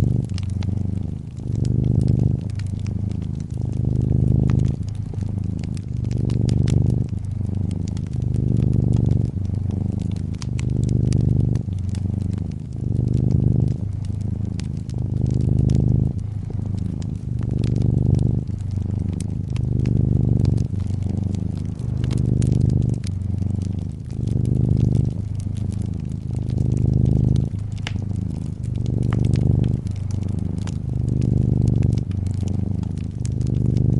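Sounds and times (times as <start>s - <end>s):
cat purring: 0.0s - 33.9s
wood fire crackling and popping: 0.0s - 33.9s.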